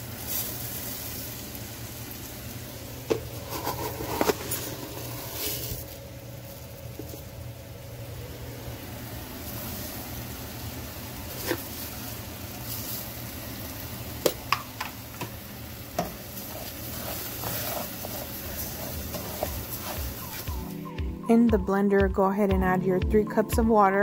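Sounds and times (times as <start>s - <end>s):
rice sizzling in hot oil: 0.0s - 20.8s.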